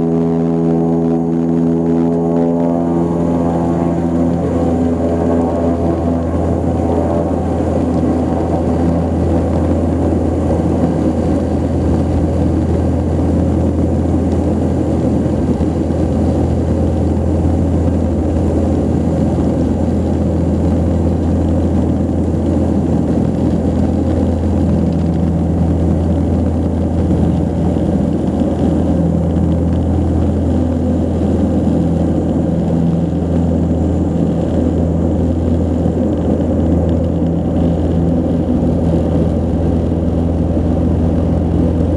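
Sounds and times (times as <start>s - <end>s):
propeller engine drone: 0.0s - 41.9s.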